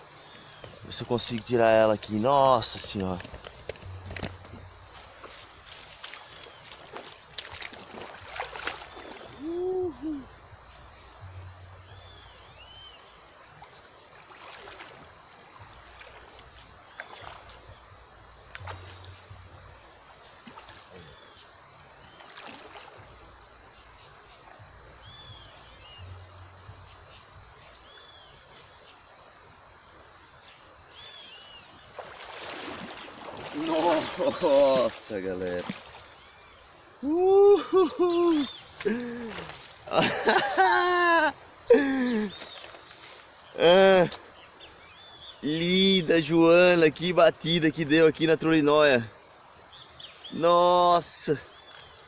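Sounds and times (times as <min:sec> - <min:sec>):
water splashing and trickling: 0:00.0 - 0:49.2, 0:49.9 - 0:52.0.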